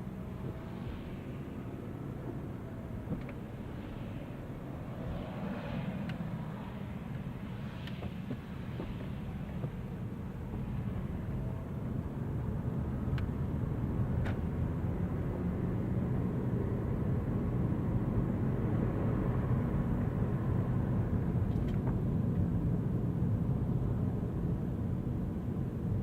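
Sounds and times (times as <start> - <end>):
car driving on wet road: 0.0 - 26.0.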